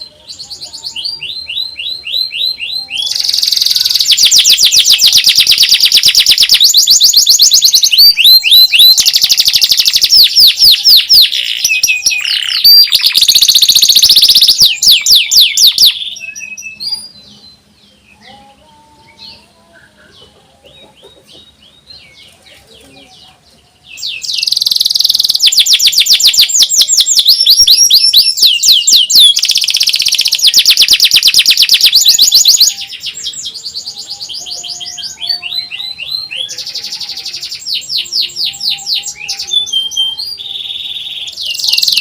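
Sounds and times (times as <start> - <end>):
canary singing fast trills: 0.0 - 42.0.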